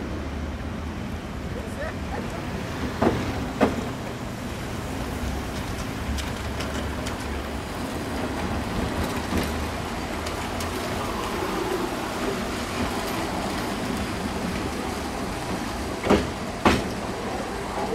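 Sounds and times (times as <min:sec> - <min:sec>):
train rumbling on track: 0:00.0 - 0:17.9.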